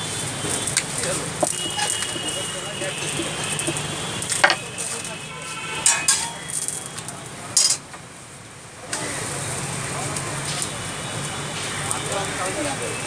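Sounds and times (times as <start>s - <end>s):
frying hiss on griddle: 0.0s - 13.0s.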